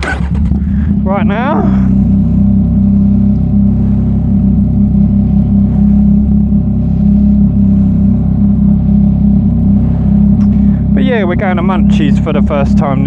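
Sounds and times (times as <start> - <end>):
loud motorcycle engine riding: 0.0 - 13.0.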